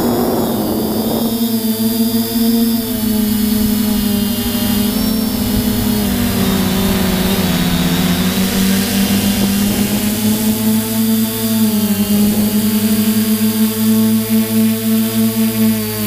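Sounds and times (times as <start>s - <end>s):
constant hiss: 0.0s - 16.0s
drone propellers whining: 0.0s - 16.0s.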